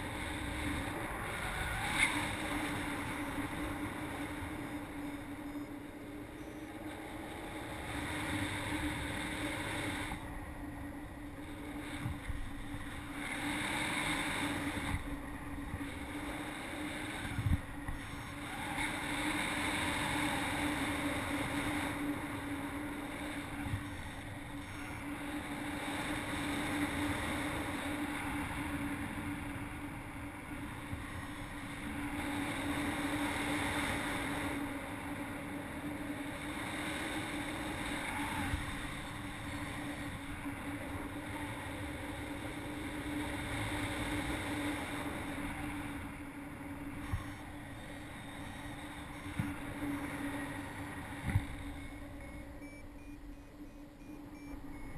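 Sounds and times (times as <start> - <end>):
steady low hum: 0.0 - 54.9
wind rushing over microphone: 0.0 - 54.9.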